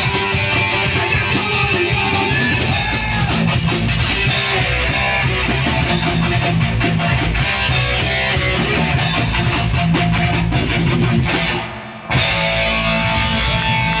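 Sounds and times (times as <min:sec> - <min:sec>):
bass guitar: 0:00.0 - 0:14.0
drum kit: 0:00.0 - 0:14.0
electric guitar: 0:00.0 - 0:14.0.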